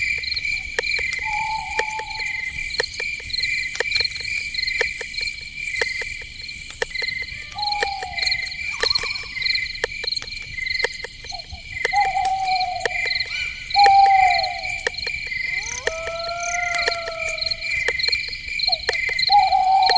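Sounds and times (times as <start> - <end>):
crickets chirping: 0.0 - 19.9
sharp clicking calls: 0.0 - 19.9.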